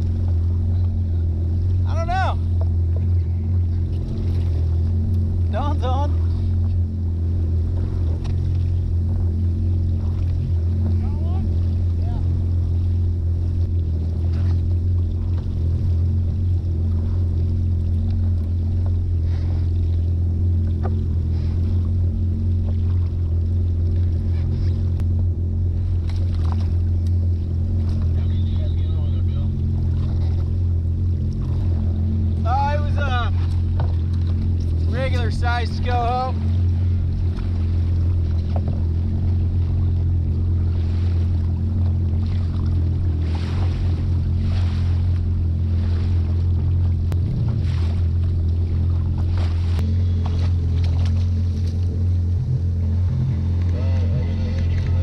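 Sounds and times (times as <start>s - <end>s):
jet ski engine idling: 0.0s - 55.0s
water washing against hull: 0.0s - 55.0s.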